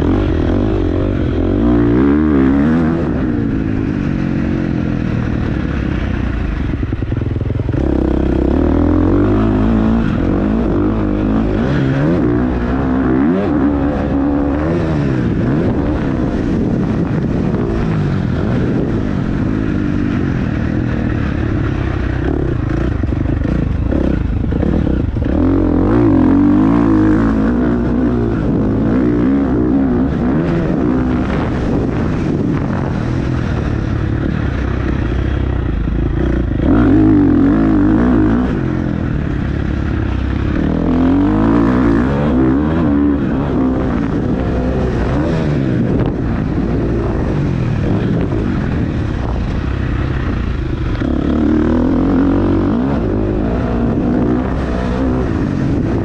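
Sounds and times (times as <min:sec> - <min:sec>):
engines revving: 0:00.0 - 0:56.0.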